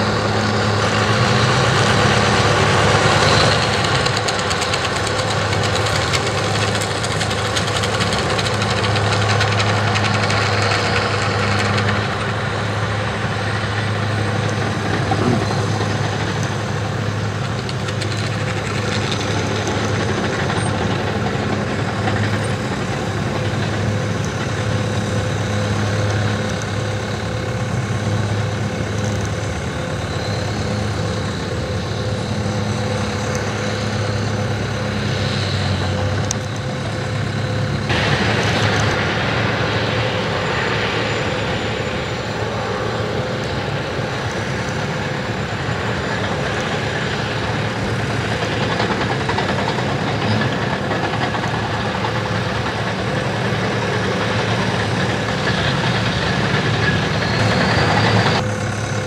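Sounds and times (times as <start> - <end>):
crawler dozer diesel engine: 0.0 - 59.0
tractor diesel engine droning: 0.0 - 59.0.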